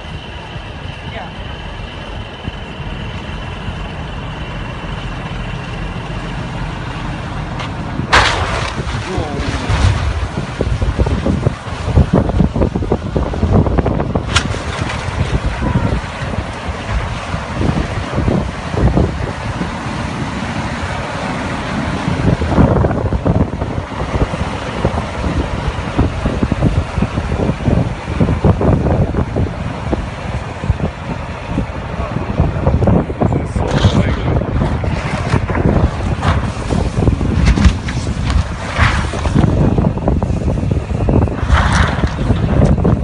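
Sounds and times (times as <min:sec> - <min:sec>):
blizzard wind buffeting microphone: 0:00.0 - 0:43.0
loud rush of noise: 0:00.0 - 0:43.0
vehicle engine low rumble: 0:00.0 - 0:43.0.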